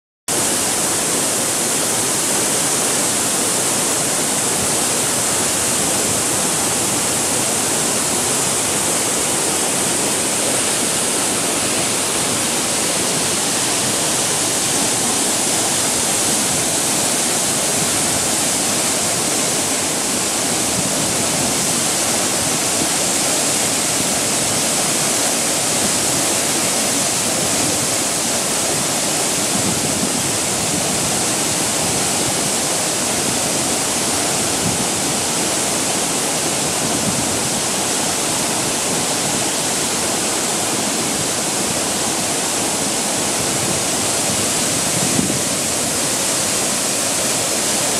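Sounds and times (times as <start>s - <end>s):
waterfall rushing: 0.3s - 47.9s.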